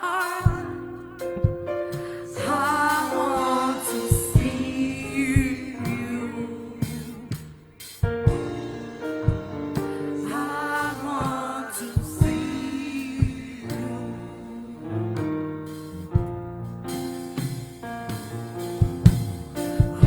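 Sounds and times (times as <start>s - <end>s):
gospel singing over chords: 0.0s - 15.8s, 19.0s - 20.0s
steady drum hits: 0.4s - 14.0s, 15.7s - 20.0s.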